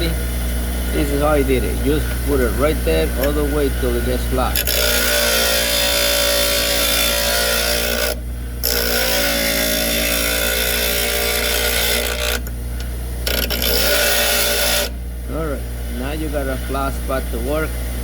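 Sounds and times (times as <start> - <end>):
drill bit grinding on grinder: 0.0 - 15.0
grinder motor hum: 0.0 - 18.0.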